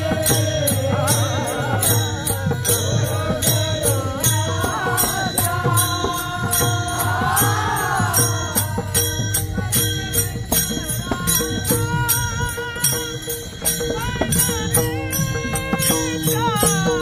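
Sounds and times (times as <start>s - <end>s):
person singing devotional song: 0.0s - 17.0s
small hand cymbals: 0.0s - 17.0s.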